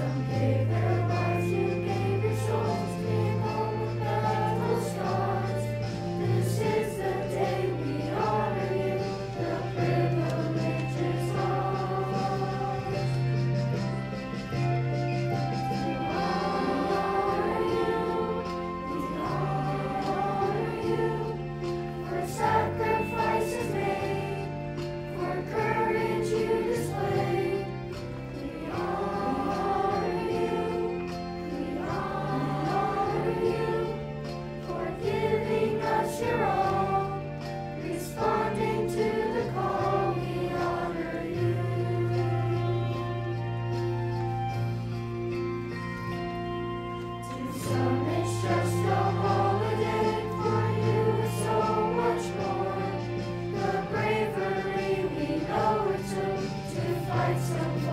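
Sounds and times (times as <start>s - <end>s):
choir singing: 0.0s - 44.2s, 46.6s - 57.9s
instrumental backing: 0.0s - 57.9s.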